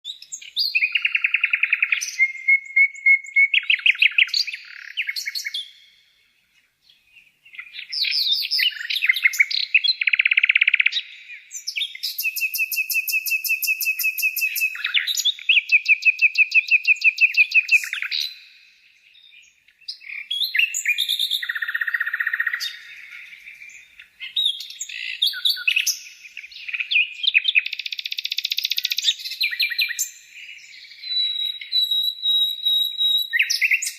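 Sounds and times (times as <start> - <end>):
bird trilling and chirping: 0.1 - 5.8, 7.5 - 18.6, 19.2 - 33.9.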